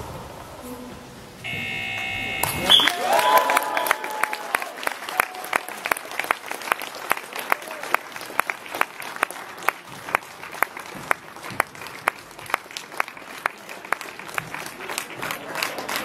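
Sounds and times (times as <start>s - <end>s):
rhythmic loud claps: 1.5s - 16.0s
spectators applauding: 1.5s - 16.0s.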